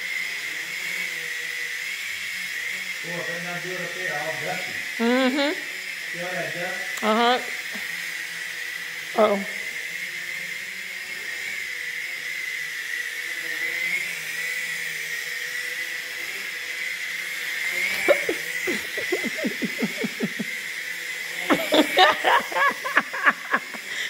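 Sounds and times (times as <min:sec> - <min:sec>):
toy drone propellers whining: 0:00.0 - 0:24.0.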